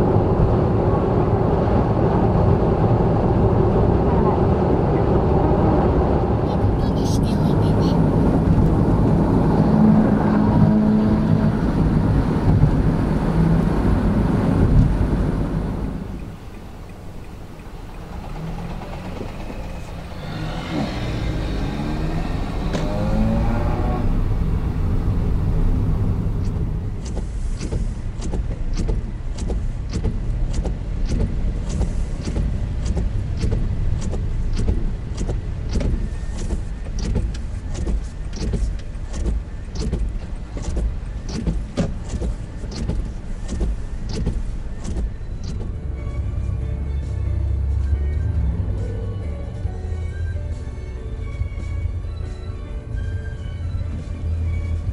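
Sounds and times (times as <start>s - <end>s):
car engine accelerating: 0.0s - 51.9s
road and cabin rumble: 0.0s - 54.9s.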